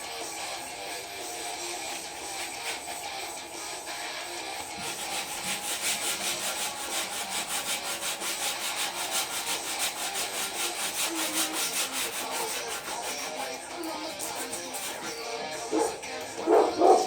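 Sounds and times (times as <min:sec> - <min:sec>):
sandpaper rubbing back and forth: 0:00.8 - 0:17.0.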